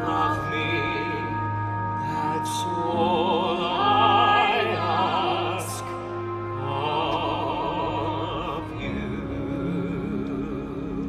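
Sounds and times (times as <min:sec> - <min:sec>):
operatic singing voice: 0:00.0 - 0:11.0
orchestral music: 0:00.0 - 0:11.0.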